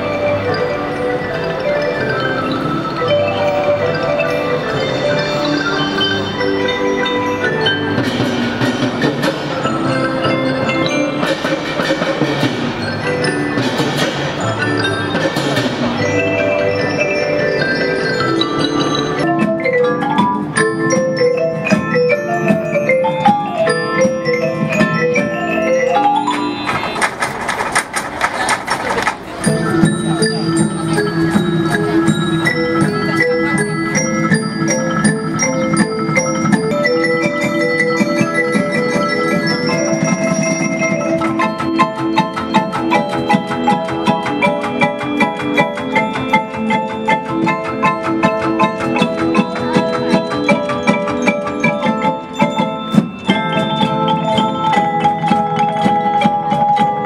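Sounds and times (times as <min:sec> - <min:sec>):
mallet percussion band playing: 0:00.0 - 0:57.0.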